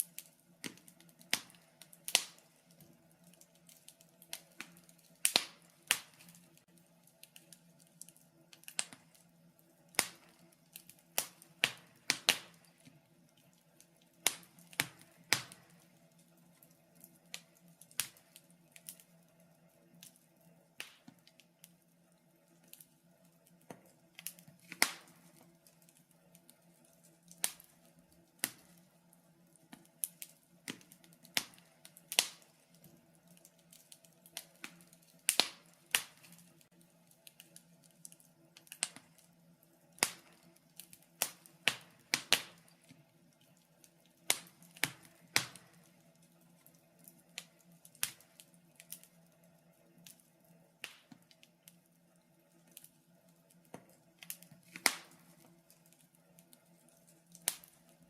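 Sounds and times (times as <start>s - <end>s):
faint steady hum: 0.0s - 58.0s
wood fire crackling: 0.0s - 58.0s.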